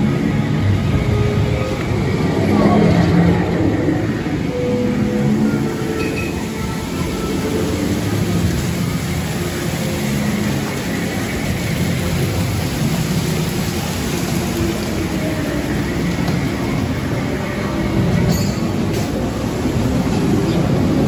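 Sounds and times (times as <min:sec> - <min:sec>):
water ride rumble and rushing: 0:00.0 - 0:21.0.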